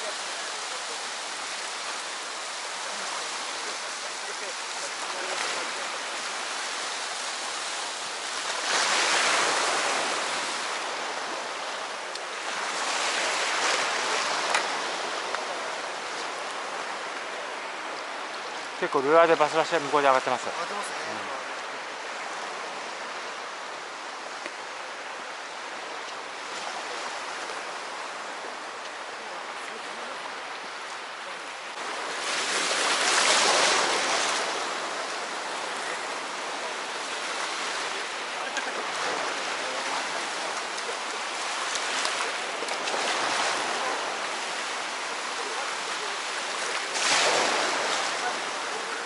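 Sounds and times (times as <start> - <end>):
sea waves washing on shore: 0.0 - 49.0.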